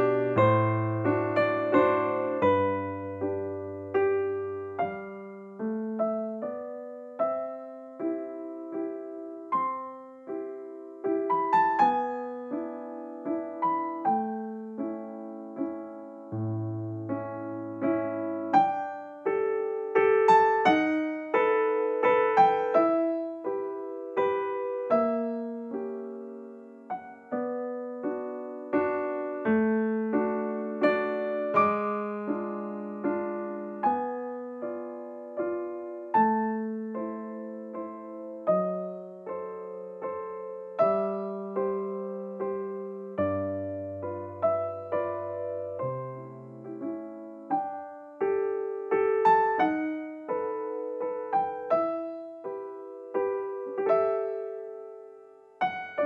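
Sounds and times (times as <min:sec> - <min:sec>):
gentle piano tune: 0:00.0 - 0:56.0.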